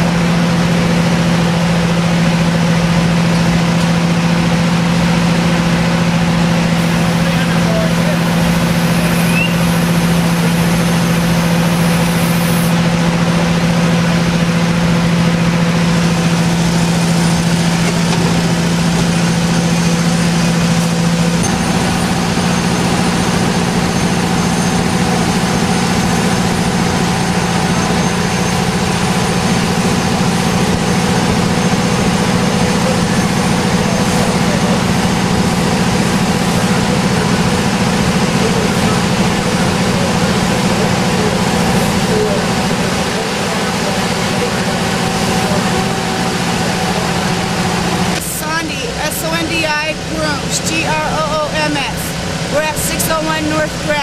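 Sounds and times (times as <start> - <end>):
fire engine motor humming: 0.0 - 54.0.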